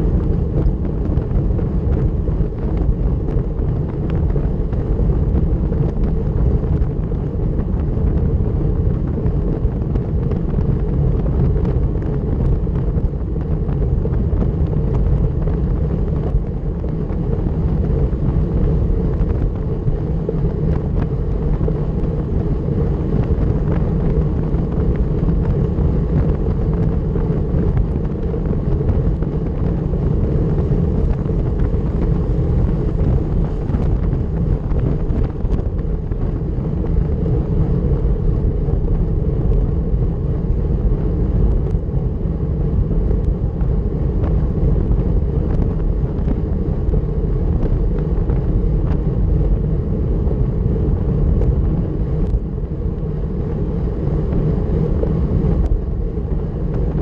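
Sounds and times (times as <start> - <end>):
bike road rumble: 0.0 - 57.0
wind on microphone: 0.0 - 57.0.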